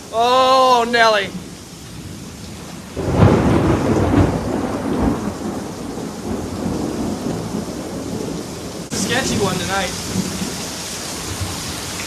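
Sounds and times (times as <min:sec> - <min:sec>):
steady rain: 0:00.0 - 0:12.0
thunder rumbling: 0:00.5 - 0:11.9.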